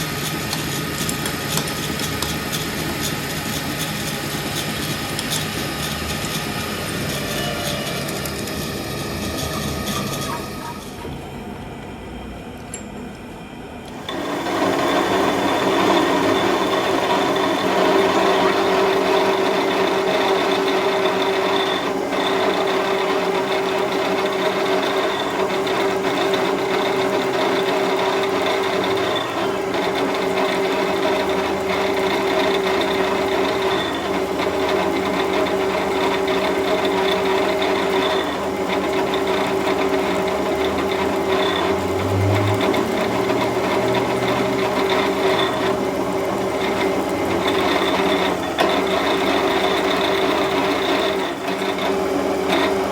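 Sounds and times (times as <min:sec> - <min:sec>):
machine tool motor whine: 0:00.0 - 0:52.9.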